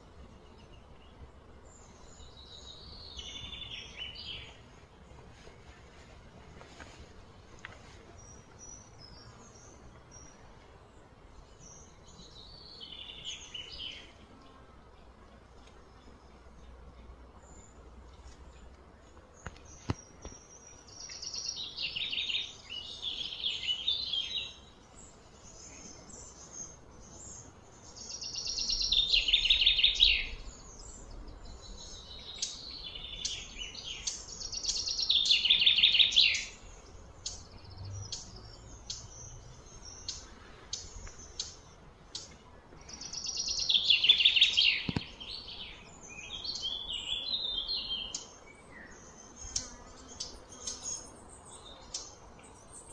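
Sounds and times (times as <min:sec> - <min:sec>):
soft bird chirps: 0:00.0 - 0:52.9.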